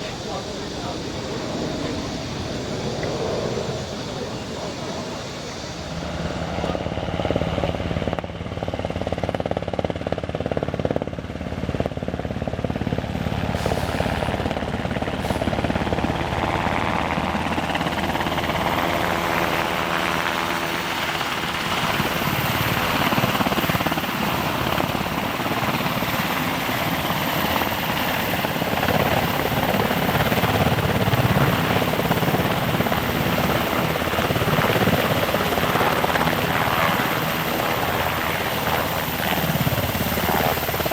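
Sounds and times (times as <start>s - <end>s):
helicopter engines and rotor: 0.0s - 40.9s.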